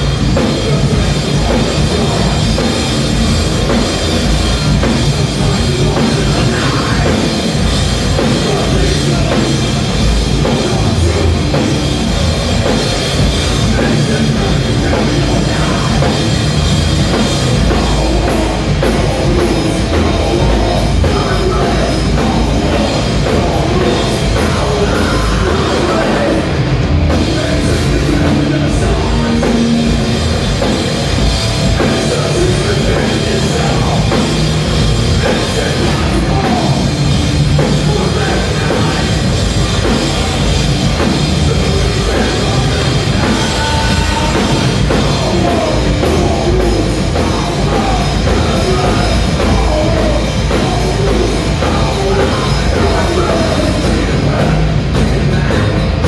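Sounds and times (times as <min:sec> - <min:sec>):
bass guitar: 0:00.0 - 0:56.0
distorted electric guitars: 0:00.0 - 0:56.0
drum kit: 0:00.0 - 0:56.0.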